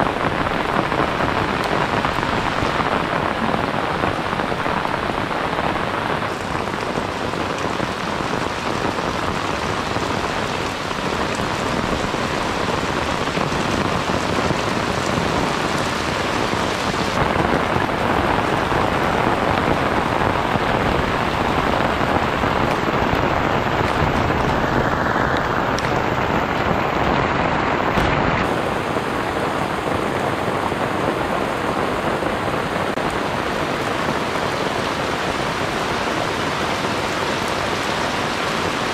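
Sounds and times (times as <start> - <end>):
rain on roof and leaves: 0.0 - 38.9.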